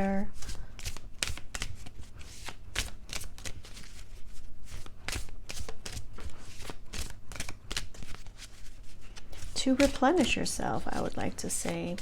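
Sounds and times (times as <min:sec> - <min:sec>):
cards being shuffled: 0:00.2 - 0:12.0.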